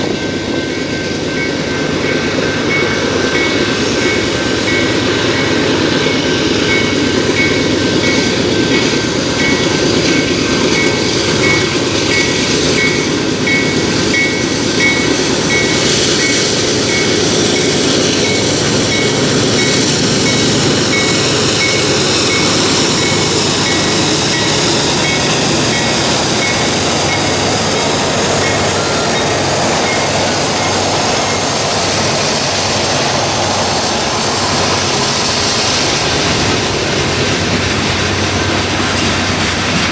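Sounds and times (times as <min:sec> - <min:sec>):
crossing bell dinging: 0:00.0 - 0:32.6
train wheels clattering on rails: 0:00.0 - 0:39.9.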